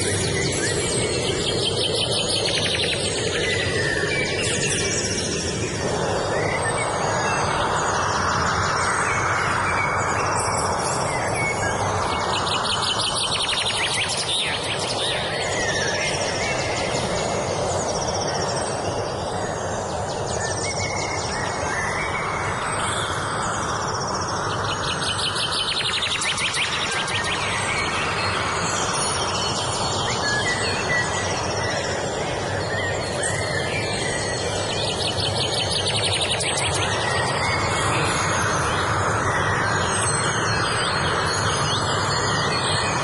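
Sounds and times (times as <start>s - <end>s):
birds singing: 0.0s - 43.0s
steady background noise: 0.0s - 43.0s.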